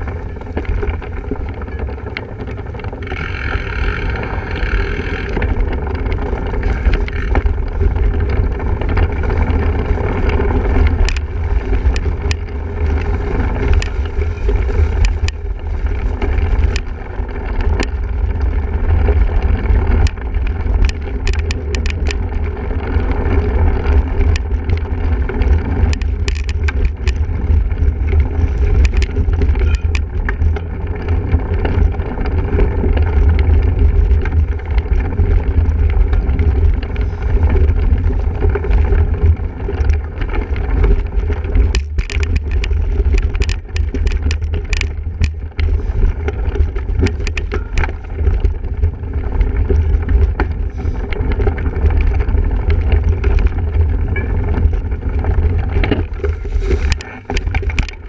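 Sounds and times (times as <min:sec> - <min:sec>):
bicycle rattling: 0:00.0 - 0:58.0
sharp clicks and knocks: 0:00.0 - 0:58.0
wind rumble on microphone: 0:00.0 - 0:58.0.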